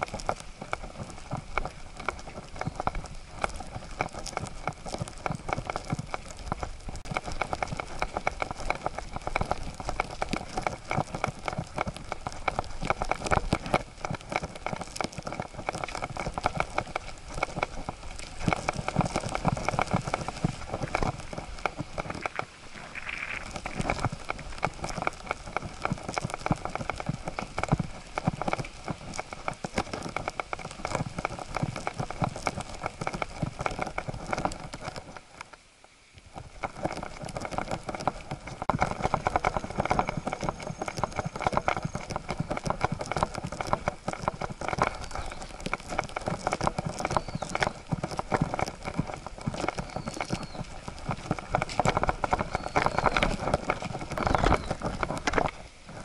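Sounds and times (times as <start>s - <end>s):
paws stepping on dirt path: 0.0s - 35.6s, 36.2s - 56.0s.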